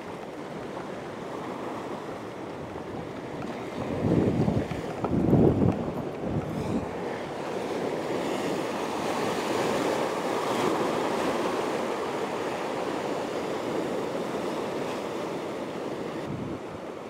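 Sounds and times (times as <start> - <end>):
sea waves breaking on rocks: 0.0 - 16.8.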